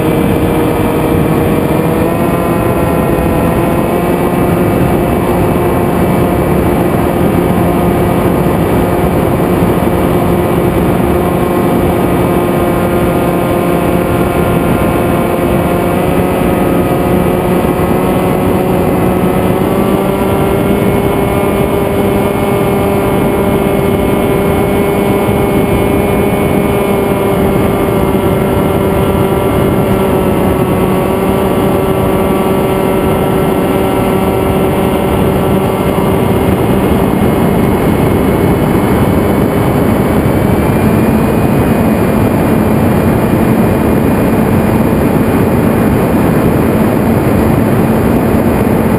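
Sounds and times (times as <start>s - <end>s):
electric motor and propeller whine: 0.0s - 48.9s
wind rushing: 0.0s - 48.9s.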